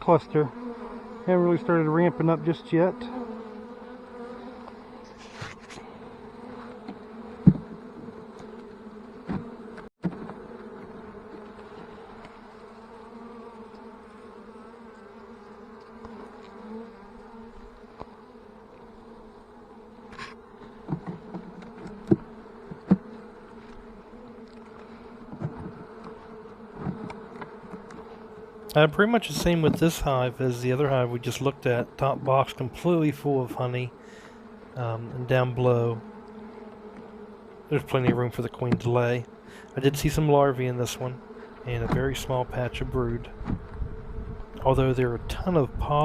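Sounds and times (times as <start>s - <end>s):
bees buzzing: 0.0s - 46.0s.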